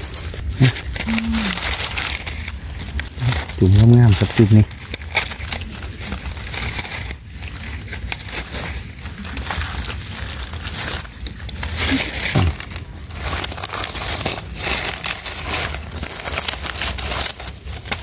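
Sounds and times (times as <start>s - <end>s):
dry leaves crackling: 0.0s - 18.0s.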